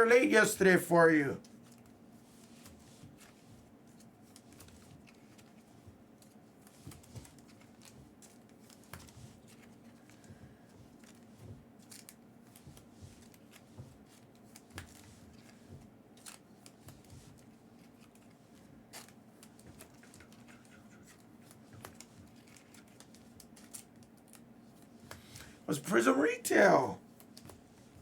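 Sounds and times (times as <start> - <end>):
clicks and scrapes of card packaging: 1.7 - 10.3, 11.0 - 25.5.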